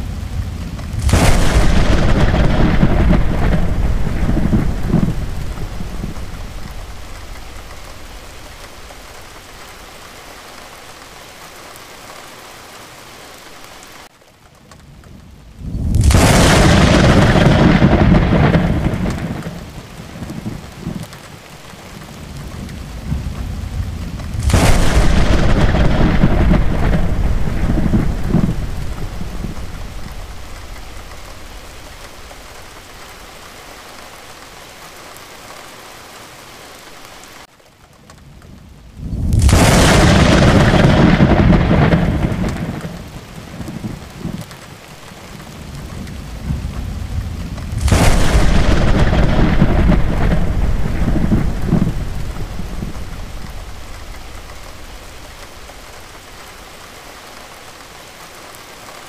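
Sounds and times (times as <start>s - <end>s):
thunder claps rumbling: 0.0s - 10.4s, 15.1s - 33.8s, 38.2s - 57.0s
steady rain: 0.0s - 59.0s.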